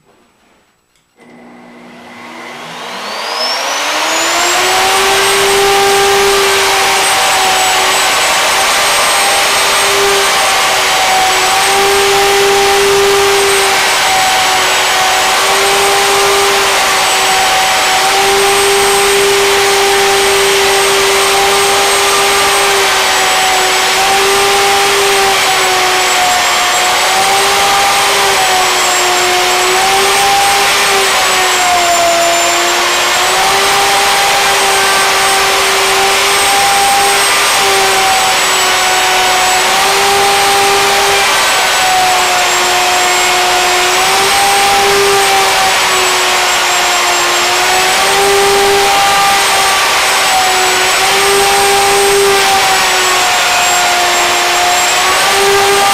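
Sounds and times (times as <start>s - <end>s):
router whining while cutting wood: 1.2s - 55.9s.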